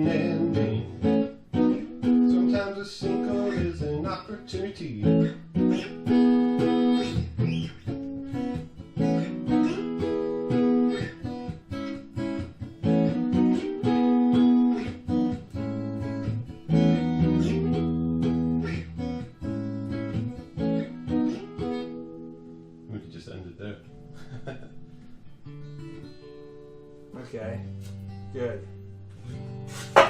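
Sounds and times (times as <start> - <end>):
acoustic guitar strumming: 0.0 - 22.9, 23.8 - 30.0.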